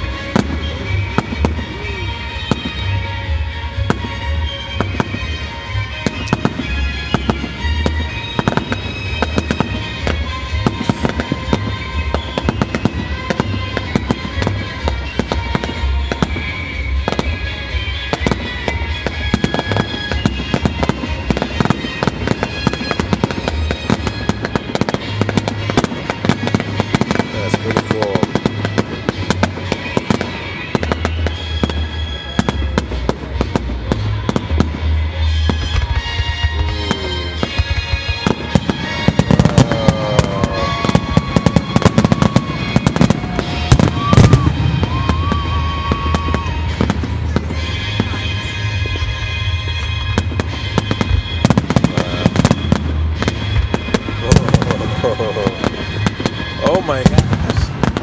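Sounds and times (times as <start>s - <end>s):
fireworks bursting and crackling: 0.0s - 58.0s
music playing: 0.0s - 58.0s.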